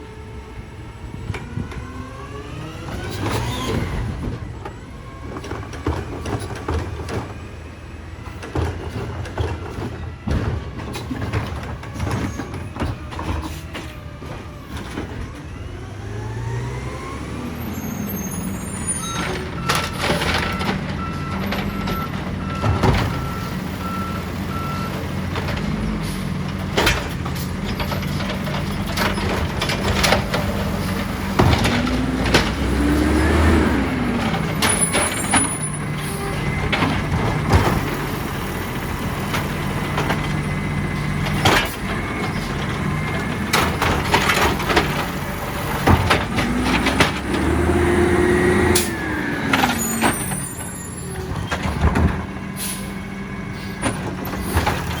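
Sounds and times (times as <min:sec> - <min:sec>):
garbage truck engine under load: 0:00.0 - 0:55.0.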